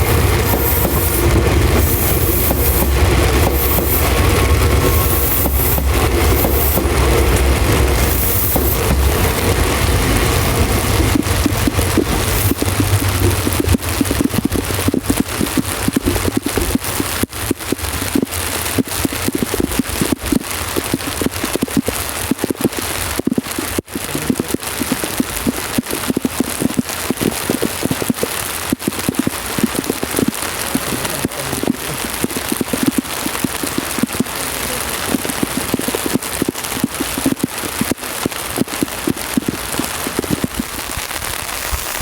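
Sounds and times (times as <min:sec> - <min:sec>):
rain falling: 0:00.0 - 0:42.0
raindrops striking a surface: 0:00.0 - 0:42.0.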